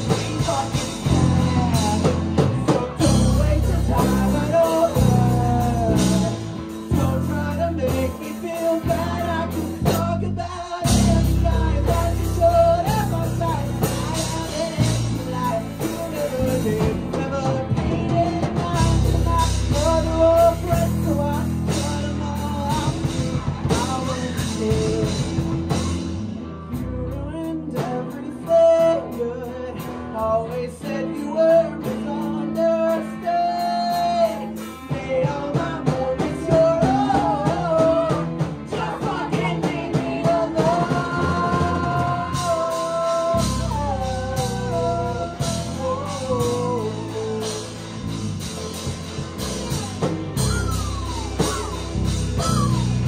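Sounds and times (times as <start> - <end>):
lead singer: 0.0 - 53.0
live rock band playing: 0.0 - 53.0.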